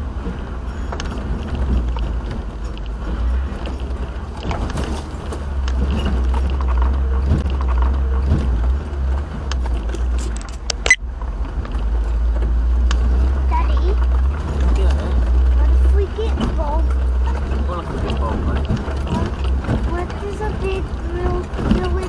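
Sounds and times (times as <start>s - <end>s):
vehicle engine and road rumble: 0.0s - 22.0s
clicks and rattles: 0.2s - 22.0s.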